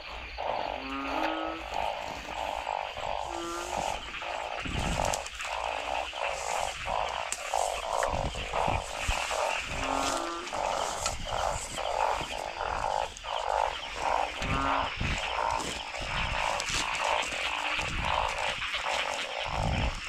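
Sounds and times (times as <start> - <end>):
frogs croaking: 0.0 - 20.0
high insect trill: 0.0 - 20.0
short high-pitched frog calls: 0.0 - 20.0.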